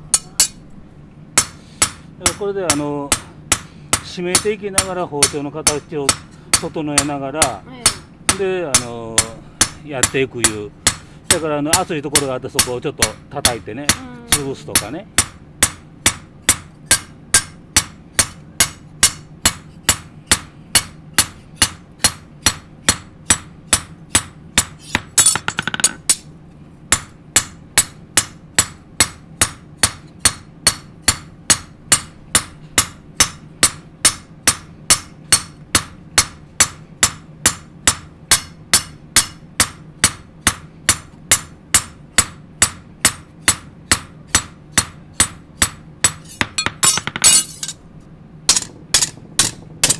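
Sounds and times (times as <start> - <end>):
hammer striking metal on anvil: 0.1 - 0.7, 1.4 - 26.3, 26.9 - 47.8, 48.5 - 49.9.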